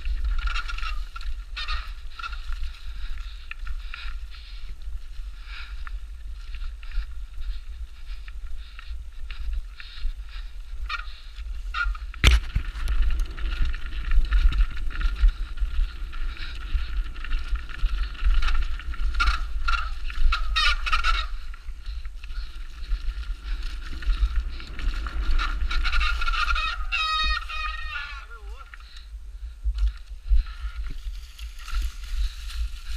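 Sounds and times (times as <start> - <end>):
bike tyres rumbling on trail: 0.0 - 32.9.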